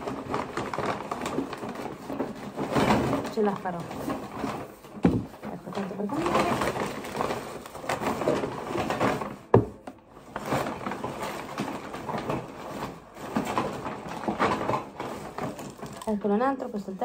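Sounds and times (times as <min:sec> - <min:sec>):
paper bag rustling: 0:00.0 - 0:17.0.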